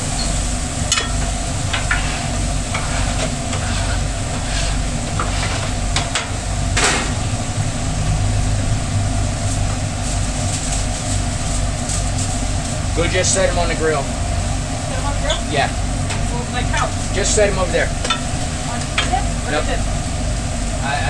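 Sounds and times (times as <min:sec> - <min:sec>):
griddle sizzling: 0:00.0 - 0:21.0
low mechanical hum: 0:00.0 - 0:21.0.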